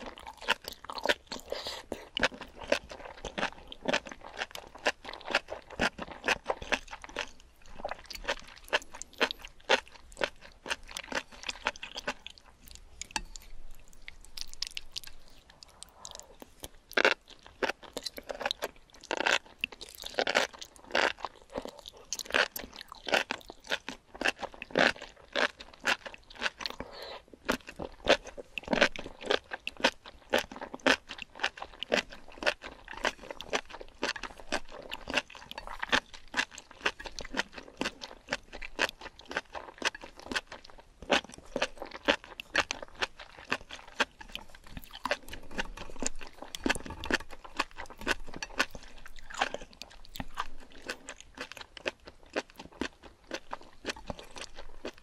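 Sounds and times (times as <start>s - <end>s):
person chewing with mouth clicks: 0.0s - 55.0s.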